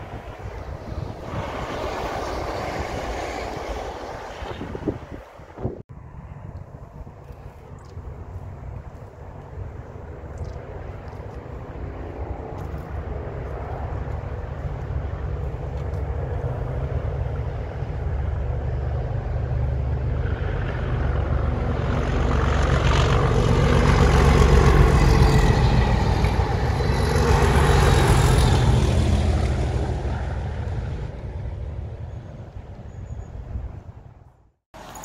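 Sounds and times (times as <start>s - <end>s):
locomotive engine rumble: 0.0s - 34.2s.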